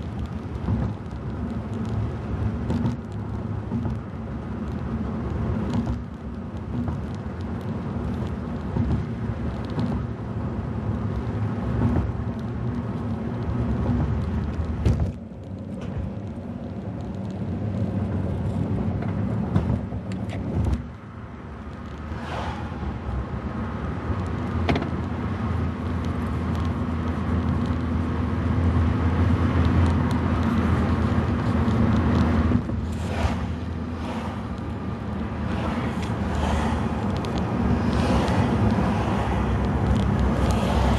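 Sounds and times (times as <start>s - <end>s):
car road and engine hum: 0.0s - 40.9s.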